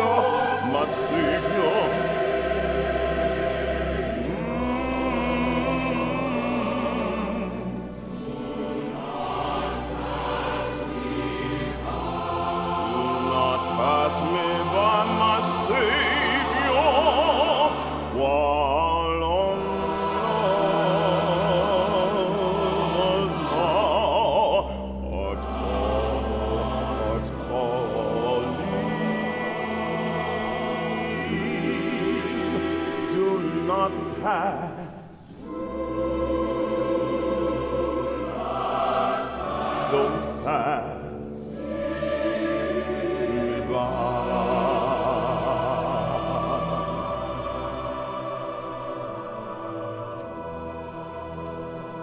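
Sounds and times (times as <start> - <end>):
operatic choral and orchestral music: 0.0 - 52.0.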